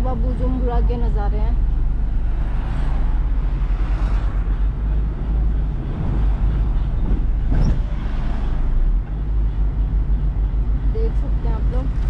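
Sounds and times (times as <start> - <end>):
vehicle rumble and road noise: 0.0 - 12.0.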